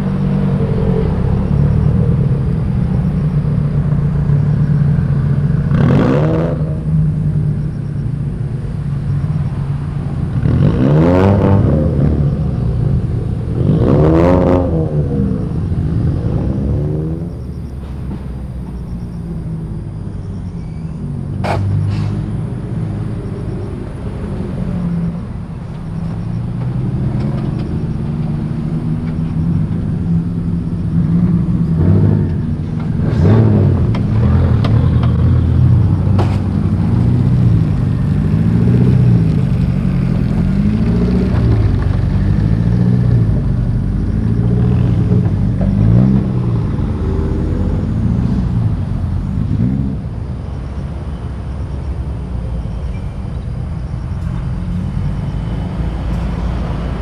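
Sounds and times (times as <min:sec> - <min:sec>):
engine revving up and down: 0:00.0 - 0:07.7, 0:08.8 - 0:57.0
car engines running: 0:00.0 - 0:57.0.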